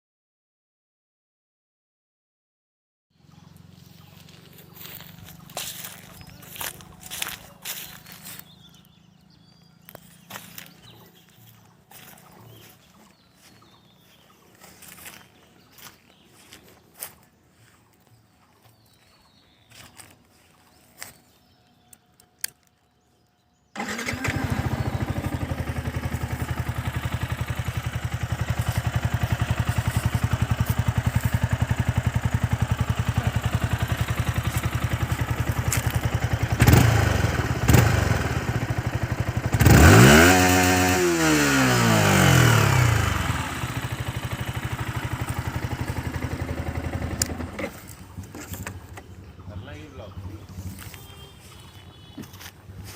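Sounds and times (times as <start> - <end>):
motorcycle engine starting and revving: 3.1 - 17.2, 23.6 - 52.9.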